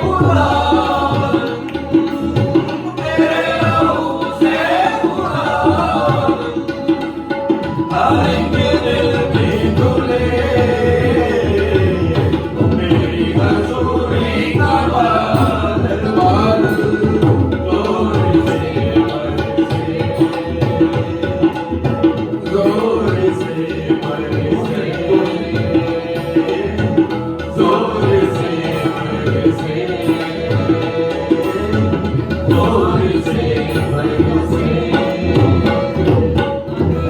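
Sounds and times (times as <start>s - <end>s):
hand drum beat: 0.0s - 37.0s.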